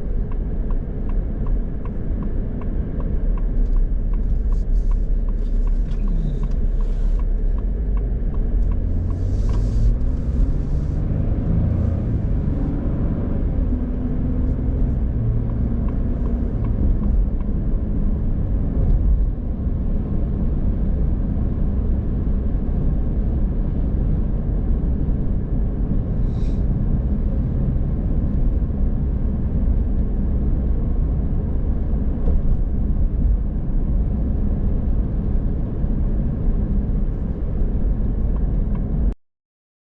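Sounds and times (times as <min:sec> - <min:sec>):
car engine and tyres rumbling: 0:00.0 - 0:39.2.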